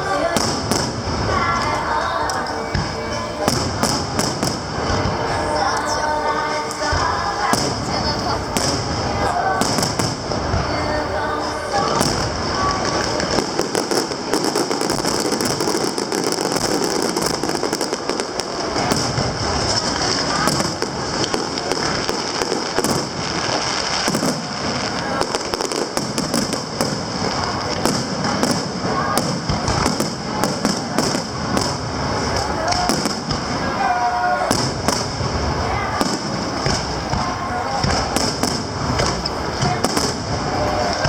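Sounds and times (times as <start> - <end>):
fireworks bursting: 0.0 - 41.0
bangs and crackles: 6.8 - 41.0.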